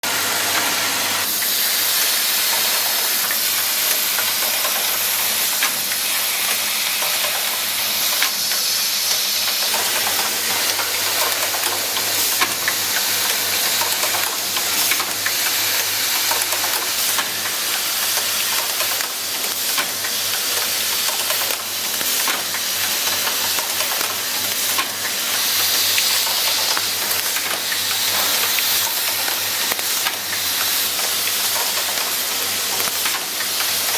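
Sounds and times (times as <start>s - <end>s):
machine hiss: 0.0s - 33.9s.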